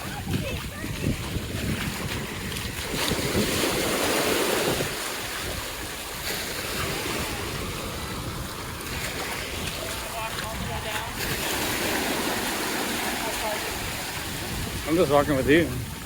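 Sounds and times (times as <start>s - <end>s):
ocean surf washing onto beach: 0.0s - 16.0s
wind buffeting microphone: 0.0s - 16.0s.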